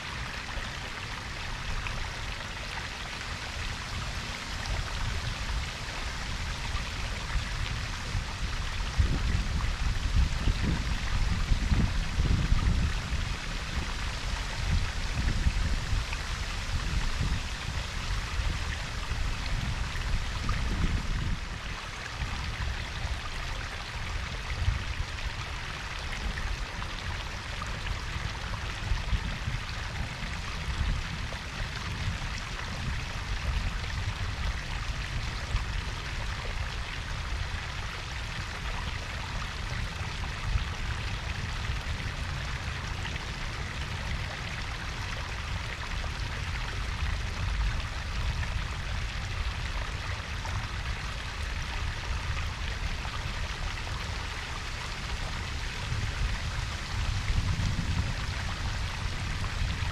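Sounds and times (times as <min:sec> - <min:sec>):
waterfall splashing and trickling: 0:00.0 - 0:59.9.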